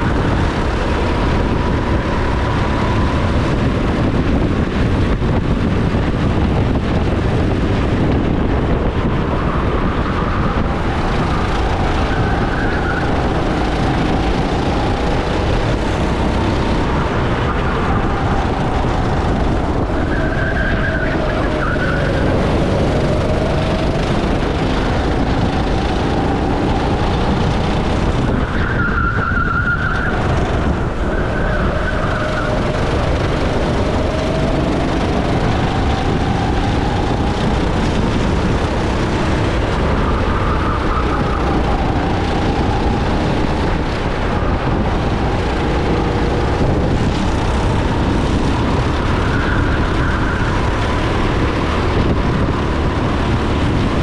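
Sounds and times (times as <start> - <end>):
go-kart engine revving: 0.0 - 54.0
steady rush of noise: 0.0 - 54.0.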